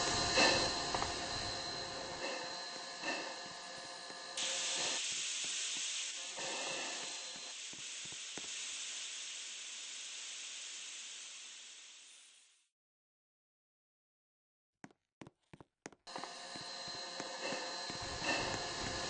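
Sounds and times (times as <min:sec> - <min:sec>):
steam locomotive hissing: 0:00.0 - 0:12.4, 0:16.1 - 0:19.0.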